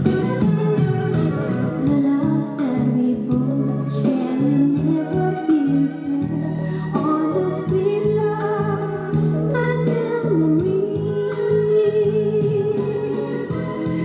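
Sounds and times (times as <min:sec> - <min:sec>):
cassette player playing a song: 0:00.0 - 0:14.0.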